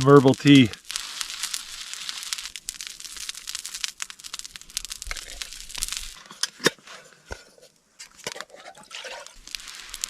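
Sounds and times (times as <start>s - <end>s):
cooking fire crackling: 0.0s - 10.0s.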